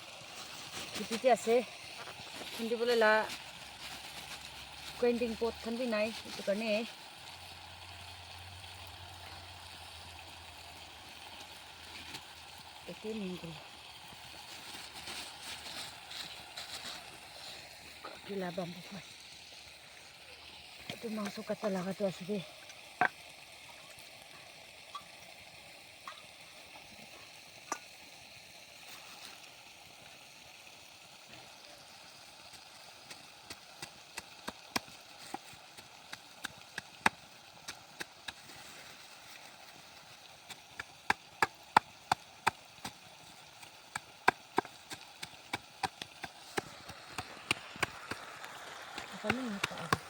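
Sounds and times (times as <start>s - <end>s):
faint steady hiss: 0.0s - 50.0s.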